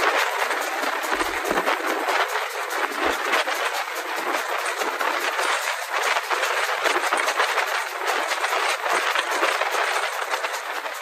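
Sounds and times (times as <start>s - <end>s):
steam locomotive running: 0.0s - 11.0s.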